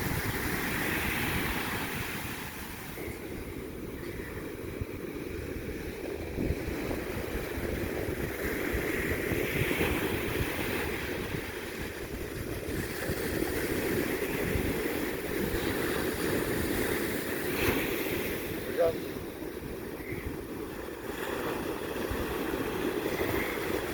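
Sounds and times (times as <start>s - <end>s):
ocean surf: 0.0s - 23.9s
wind: 0.0s - 23.9s.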